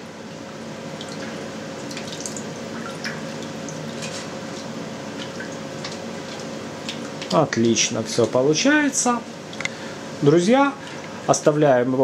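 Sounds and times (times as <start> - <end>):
background hiss and hum: 0.0 - 12.0.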